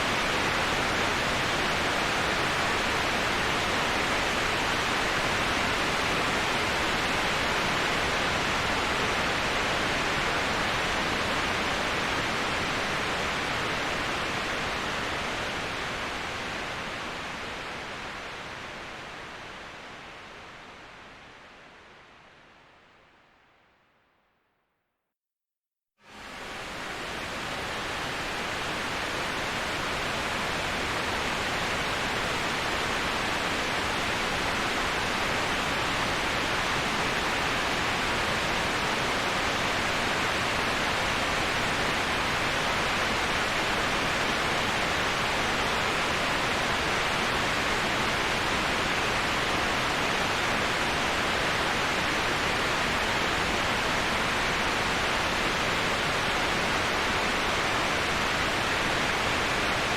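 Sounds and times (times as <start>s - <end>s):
waterfall rushing: 0.0s - 18.3s, 26.1s - 59.9s.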